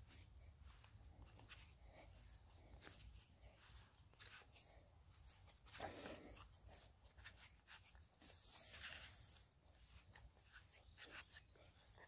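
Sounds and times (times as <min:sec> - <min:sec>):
hands rubbing bread dough: 0:00.0 - 0:12.0.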